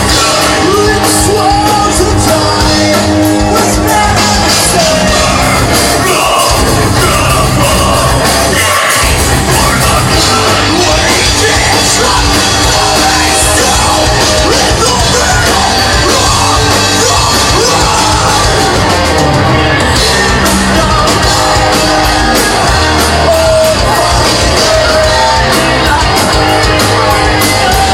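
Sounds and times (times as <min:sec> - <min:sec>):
rock band playing live: 0:00.0 - 0:27.9
yelled and sung vocals: 0:00.0 - 0:27.9.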